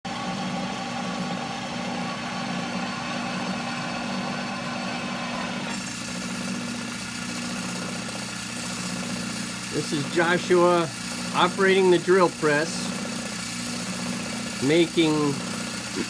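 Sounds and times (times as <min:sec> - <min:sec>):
drill press motor hum: 0:00.1 - 0:16.0
drill bit cutting steel: 0:00.5 - 0:16.0.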